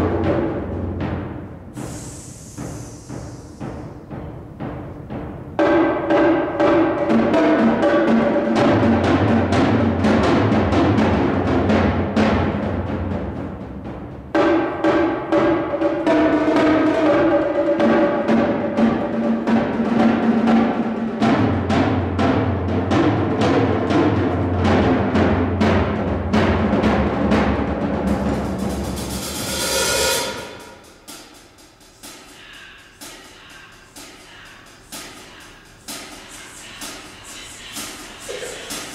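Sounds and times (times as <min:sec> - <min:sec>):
percussion ensemble drumming: 0:00.0 - 0:38.9.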